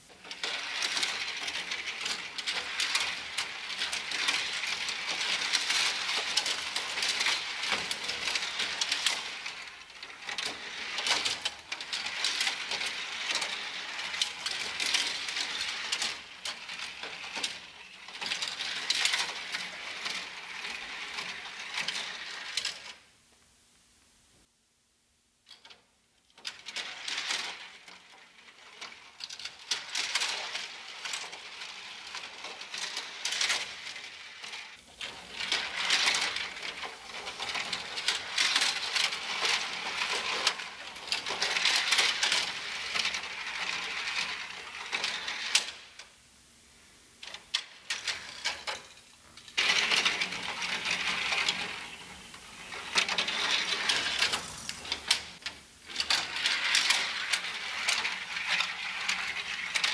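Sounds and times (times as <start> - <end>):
toy cars rattling down plastic ramps: 0.0 - 23.0, 25.5 - 46.2, 47.2 - 59.9.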